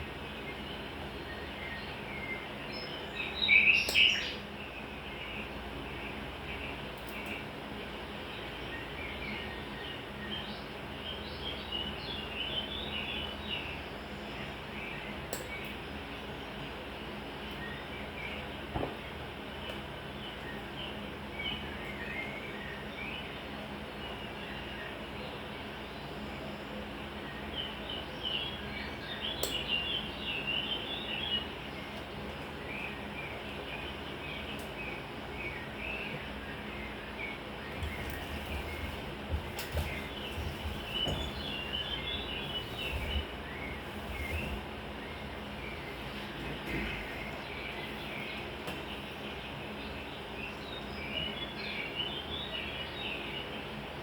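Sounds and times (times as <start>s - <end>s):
small birds chirping: 0.0s - 54.0s
steady background hum: 0.0s - 54.0s.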